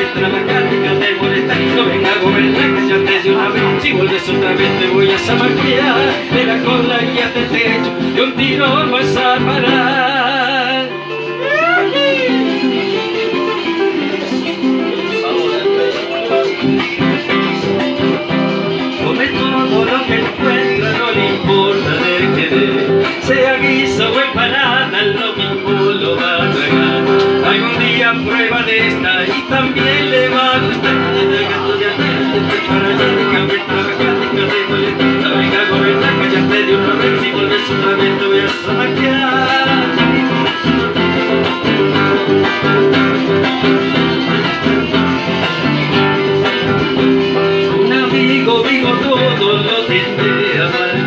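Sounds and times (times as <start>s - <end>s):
acoustic guitar playing: 0.0s - 51.0s.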